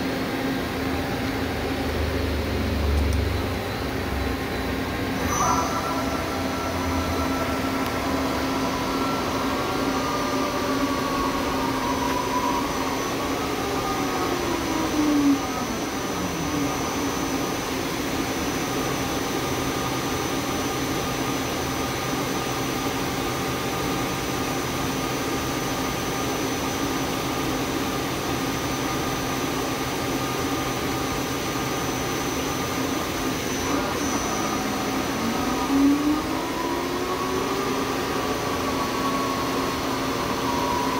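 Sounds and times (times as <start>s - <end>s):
lathe humming and whining: 0.0s - 40.9s
motor whine winding down: 1.1s - 40.9s.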